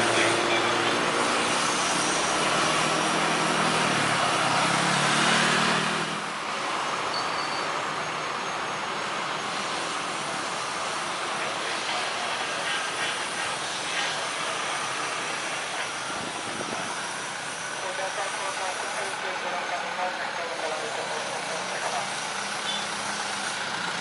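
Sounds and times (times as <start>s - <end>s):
jet engines rushing hiss: 0.0s - 7.1s, 9.2s - 24.0s.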